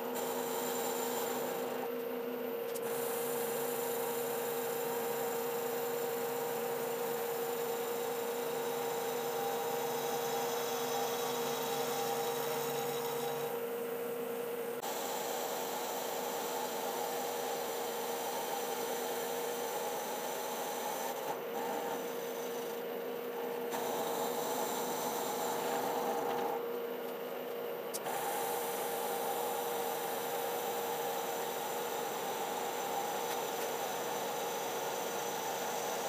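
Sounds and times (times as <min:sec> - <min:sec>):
milling machine spindle hum: 0:00.0 - 0:36.0
cutter hissing on iron: 0:02.8 - 0:13.6, 0:14.8 - 0:26.6, 0:28.0 - 0:36.0.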